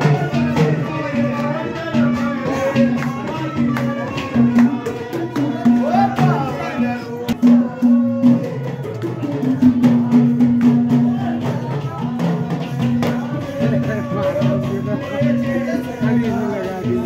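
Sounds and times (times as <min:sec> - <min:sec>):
drum rhythm: 0:00.0 - 0:17.0.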